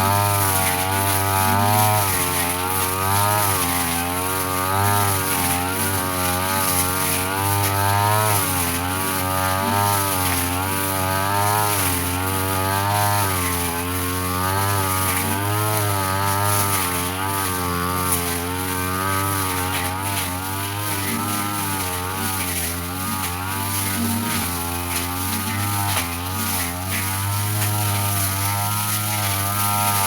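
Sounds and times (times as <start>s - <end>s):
brush cutter cutting grass: 0.0s - 30.0s.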